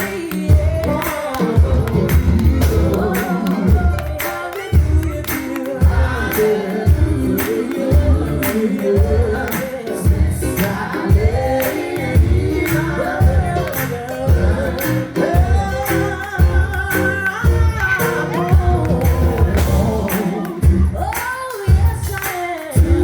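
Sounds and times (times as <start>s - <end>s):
band with steady beat: 0.0s - 23.0s
vocal group singing gospel: 0.0s - 23.0s.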